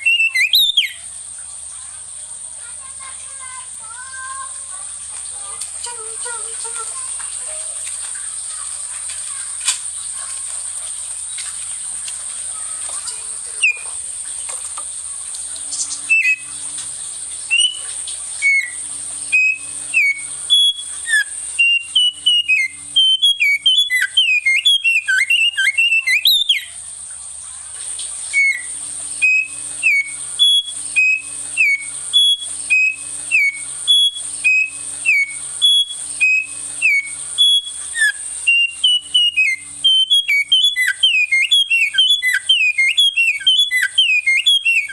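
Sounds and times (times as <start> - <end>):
songbird chirping: 0.0 - 27.3, 28.0 - 44.9
high-pitched hiss: 0.0 - 44.9.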